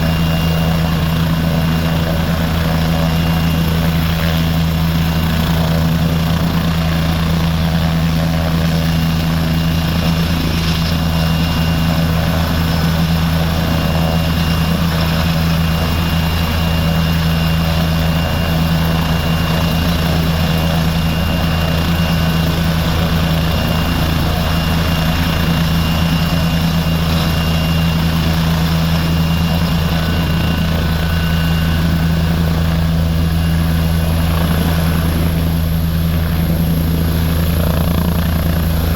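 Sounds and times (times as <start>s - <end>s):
helicopter rotor drone: 0.0s - 38.9s
high turbine whine: 0.0s - 38.9s.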